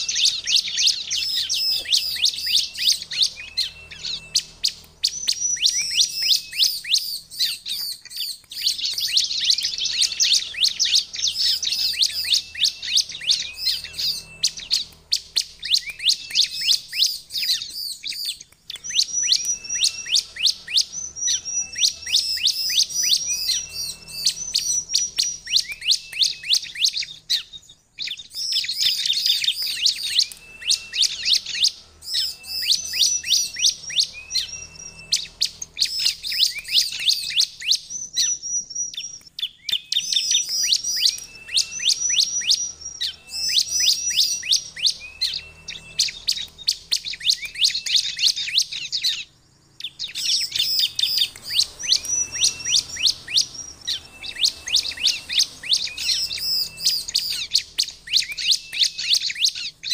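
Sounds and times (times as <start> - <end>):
bird singing high chatter: 0.0 - 59.9.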